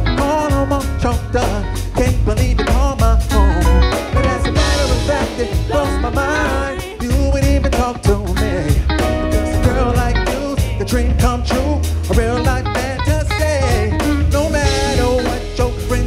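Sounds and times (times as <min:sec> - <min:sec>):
bass guitar: 0:00.0 - 0:16.0
drum kit: 0:00.0 - 0:16.0
electric guitar: 0:00.0 - 0:16.0
keyboard: 0:00.0 - 0:16.0
man singing: 0:00.0 - 0:16.0.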